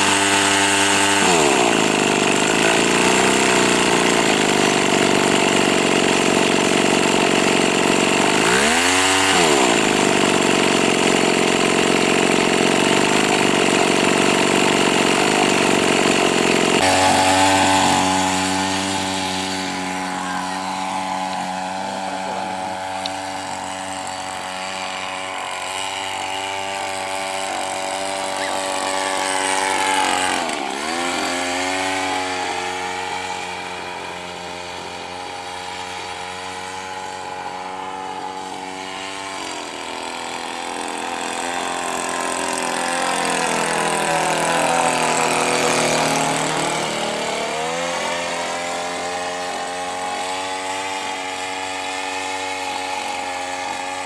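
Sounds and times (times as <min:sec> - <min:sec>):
model plane two-stroke engine: 0:00.0 - 0:54.0.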